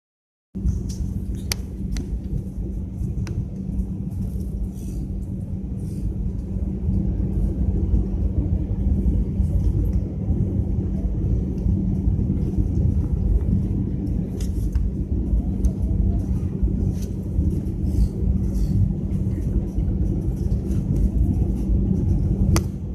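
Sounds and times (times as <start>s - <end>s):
airliner engine and airflow rumble: 0.6s - 22.9s
constant cabin hum: 0.6s - 22.9s.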